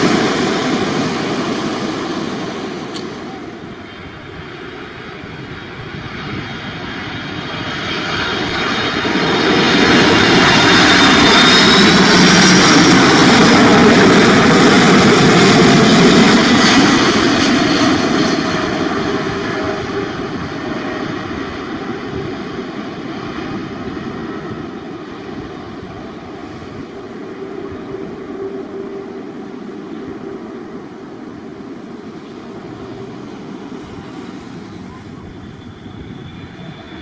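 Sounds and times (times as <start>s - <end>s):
high jet fan whine: 0.0s - 37.0s
jet aircraft passing overhead: 0.0s - 37.0s.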